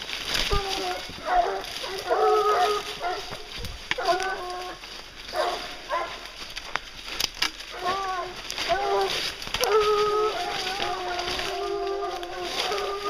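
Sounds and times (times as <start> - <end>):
brush rustling: 0.0 - 13.0
hounds baying: 0.2 - 13.0.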